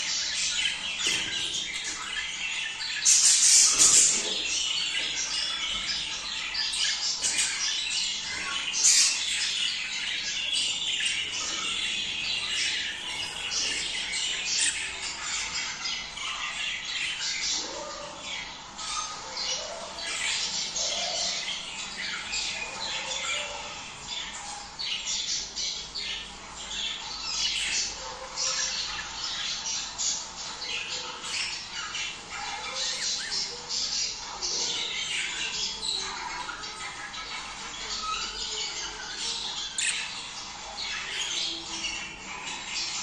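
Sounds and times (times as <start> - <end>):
budgerigars chattering: 0.0 - 43.0
harsh squawks and chirps: 0.0 - 43.0.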